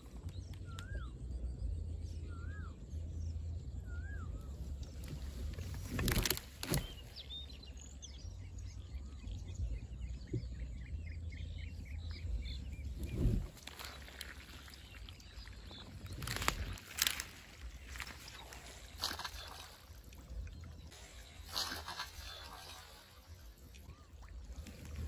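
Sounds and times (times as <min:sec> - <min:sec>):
steady low rumble: 0:00.0 - 0:06.4, 0:07.2 - 0:25.0
small birds chirping: 0:00.0 - 0:25.0.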